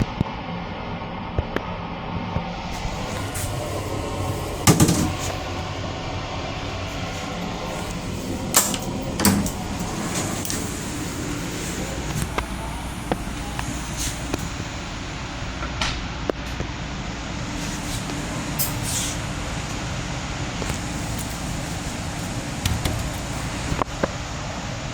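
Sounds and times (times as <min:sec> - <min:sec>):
railcar interior rumble and hum: 0:02.2 - 0:24.9.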